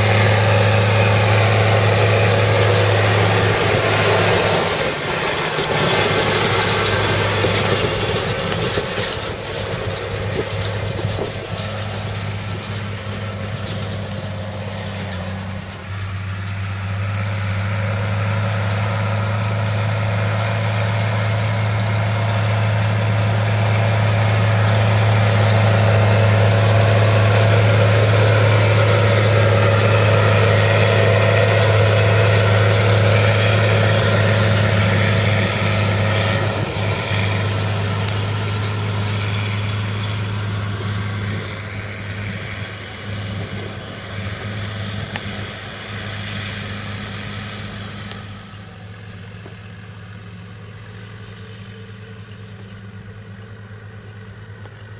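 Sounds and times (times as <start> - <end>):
loader wagon pickup clatter: 0.0 - 54.9
tractor engine hum: 0.0 - 54.9.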